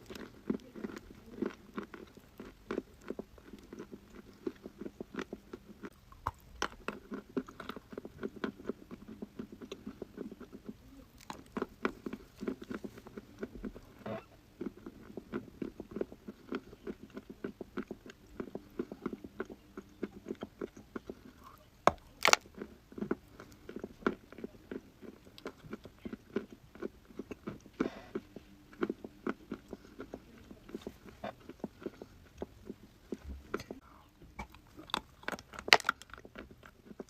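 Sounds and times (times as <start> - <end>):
chalk crunching while chewed: 0.0 - 37.0.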